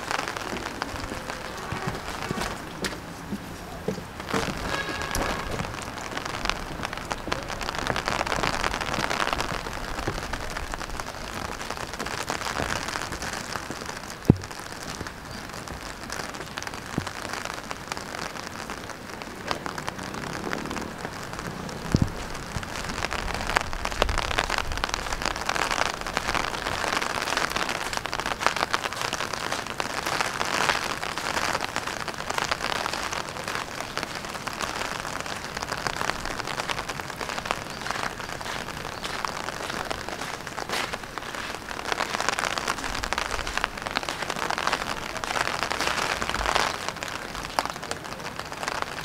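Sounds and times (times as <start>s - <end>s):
rain falling on wet paving: 0.0s - 49.0s.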